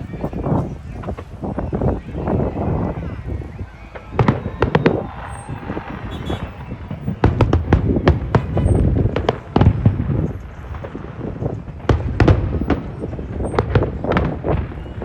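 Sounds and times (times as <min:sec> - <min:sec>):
fireworks bangs and crackles: 0:00.0 - 0:15.0
steady outdoor rumble: 0:00.0 - 0:15.0.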